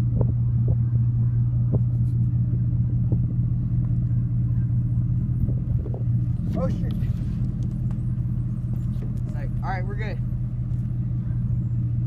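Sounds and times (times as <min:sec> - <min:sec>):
pickup truck driving slowly: 0:00.0 - 0:12.0.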